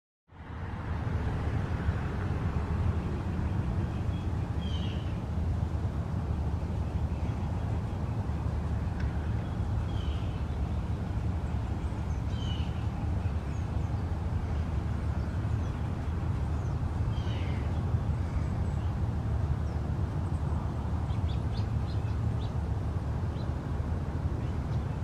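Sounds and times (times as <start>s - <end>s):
steady low rumble: 0.3s - 25.0s
songbirds chirping: 1.0s - 25.0s.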